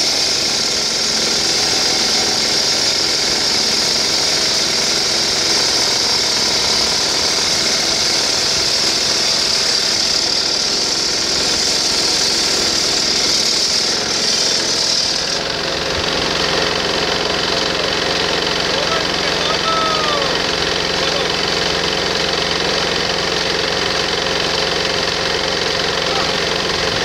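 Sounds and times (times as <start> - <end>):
stone saw cutting granite: 0.0 - 27.0.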